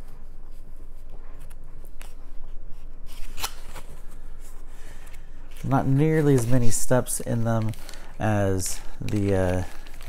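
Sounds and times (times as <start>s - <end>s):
paper booklet rustling: 0.0s - 10.0s.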